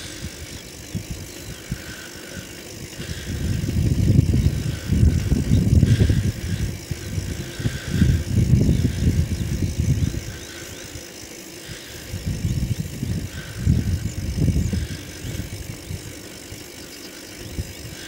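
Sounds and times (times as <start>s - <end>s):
wind buffeting on microphone: 0.0s - 11.0s, 11.6s - 18.0s
bicycle tyre rumble: 0.0s - 18.0s.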